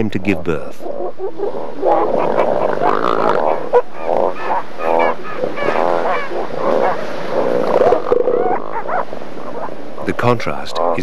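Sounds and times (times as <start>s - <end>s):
elephant seals calling: 0.0s - 11.0s.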